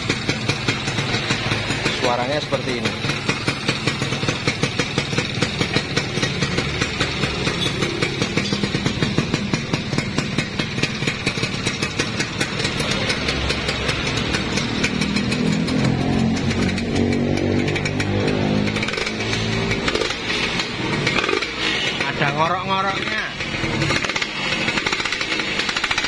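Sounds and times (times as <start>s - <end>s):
two-stroke engine running: 0.0s - 26.0s.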